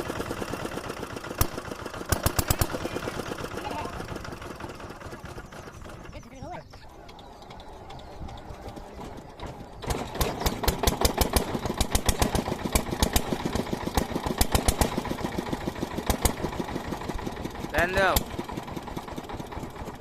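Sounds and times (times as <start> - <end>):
diesel engine knocking: 0.0 - 20.0.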